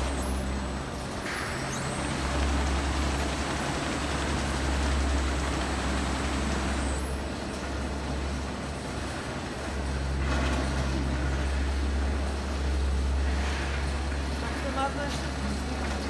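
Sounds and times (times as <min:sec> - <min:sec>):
machinery humming: 0:00.0 - 0:16.0
roller conveyor rolling noise: 0:00.0 - 0:16.0.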